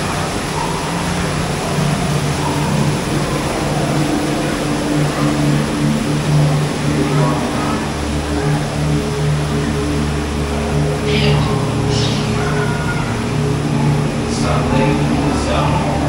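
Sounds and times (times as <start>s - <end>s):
deeper hum: 0.0s - 16.0s
low droning hum: 0.0s - 16.0s
steady rushing hiss: 0.0s - 16.0s.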